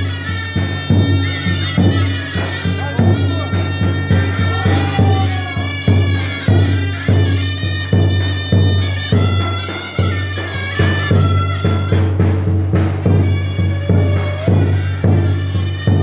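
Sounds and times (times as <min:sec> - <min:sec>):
reedy wind instrument melody: 0:00.0 - 0:16.0
steady drum beat: 0:00.0 - 0:16.0.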